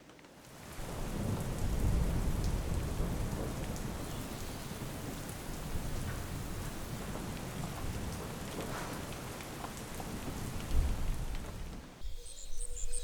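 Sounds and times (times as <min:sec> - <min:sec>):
raindrop ticks: 0:00.0 - 0:12.0
steady rain falling: 0:00.0 - 0:13.0
deep rumble of thunder: 0:00.8 - 0:09.4, 0:10.0 - 0:11.8.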